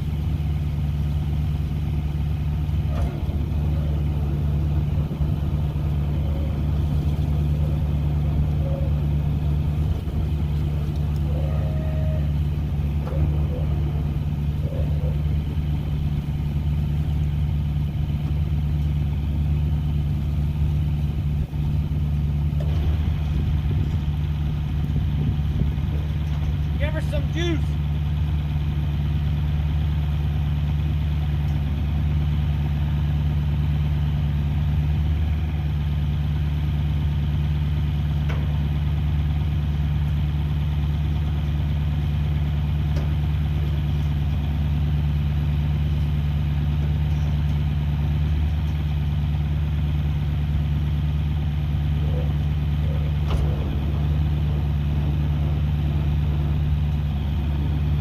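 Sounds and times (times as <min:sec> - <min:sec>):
farm machine engine idling: 0:00.0 - 0:58.0.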